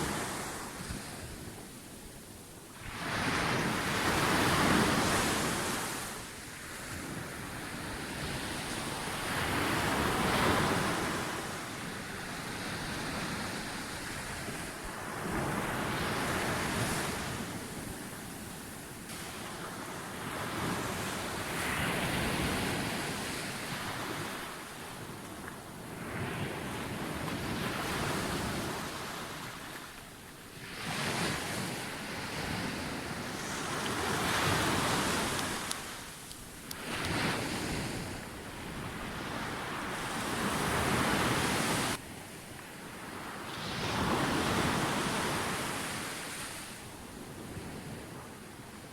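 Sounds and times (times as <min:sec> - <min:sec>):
ocean surf breaking on beach: 0:00.0 - 0:02.1, 0:02.7 - 0:48.9.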